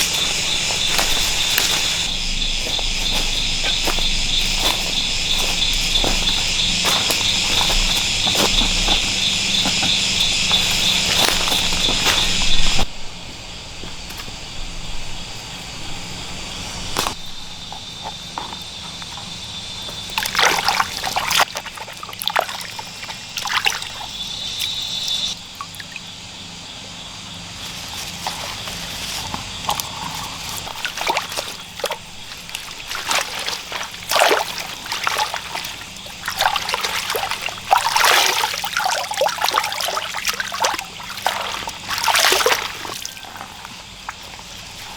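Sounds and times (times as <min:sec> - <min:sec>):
splashes and knocks: 0:00.0 - 0:13.0, 0:16.9 - 0:26.1, 0:27.7 - 0:44.9
shrill insect chorus: 0:00.0 - 0:44.9
water sloshing and trickling: 0:00.0 - 0:44.9.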